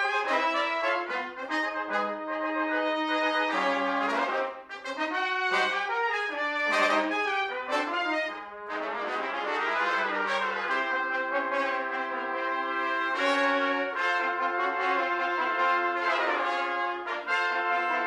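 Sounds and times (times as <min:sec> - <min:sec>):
brass ensemble playing chords: 0:00.0 - 0:18.0.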